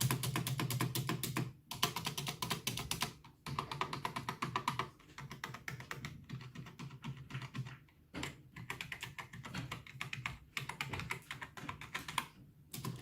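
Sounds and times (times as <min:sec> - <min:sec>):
fast typing on keyboard: 0:00.0 - 0:13.0.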